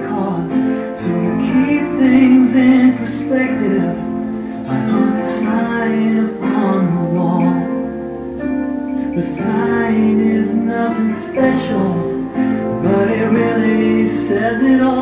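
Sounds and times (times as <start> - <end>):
instrumental backing: 0.0 - 15.0
person singing: 0.0 - 15.0.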